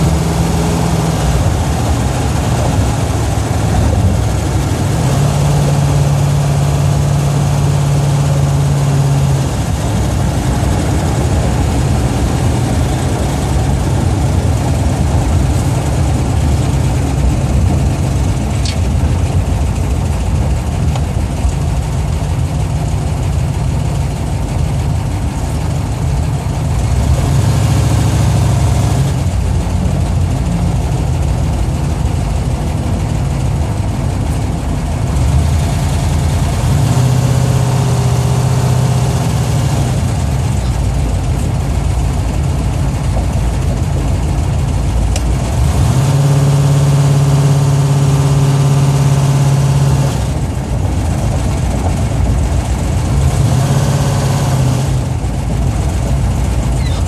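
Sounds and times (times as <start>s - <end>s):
car engine drone while driving: 0.0s - 57.0s.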